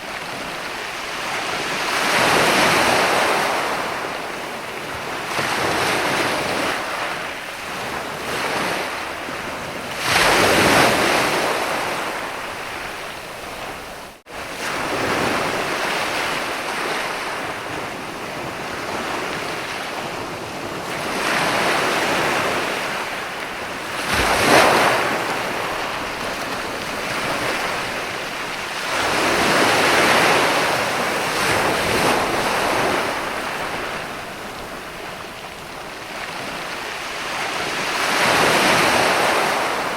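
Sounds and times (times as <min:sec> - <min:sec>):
ocean waves on beach: 0:00.0 - 0:39.9.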